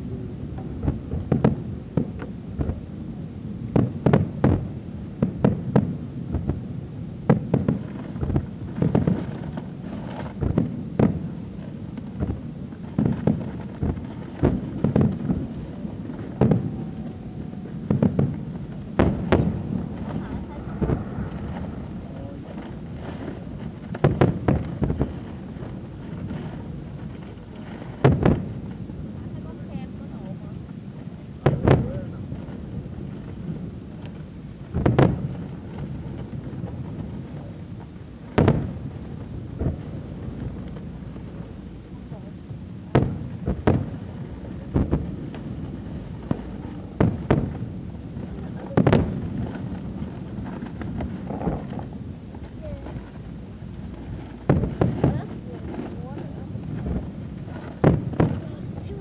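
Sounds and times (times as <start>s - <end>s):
fireworks bangs with rumble: 0.0s - 59.0s.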